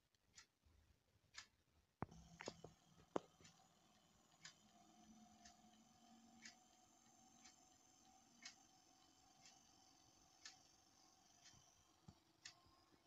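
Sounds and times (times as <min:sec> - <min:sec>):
faint ticking: 0:01.4 - 0:13.0.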